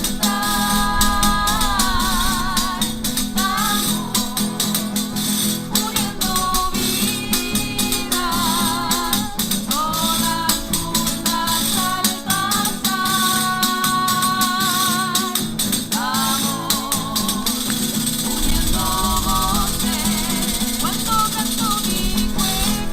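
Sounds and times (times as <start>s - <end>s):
guitar accompaniment: 0.0s - 22.9s
person singing: 0.0s - 22.9s
rattling tambourine jingles: 0.0s - 22.9s.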